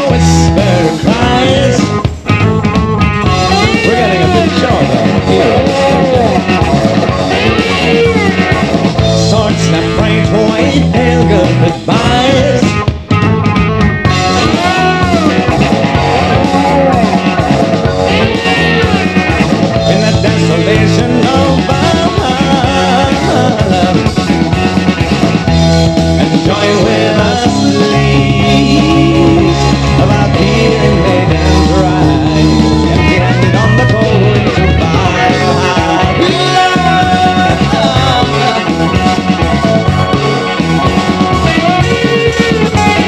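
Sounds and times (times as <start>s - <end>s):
rock band instrumental from vinyl: 0.0s - 43.0s.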